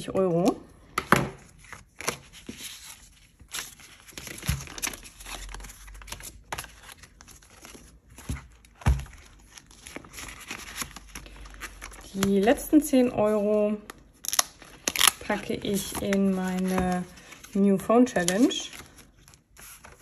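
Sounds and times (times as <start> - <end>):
paper rustling and crinkling: 1.4 - 13.5, 14.2 - 20.0.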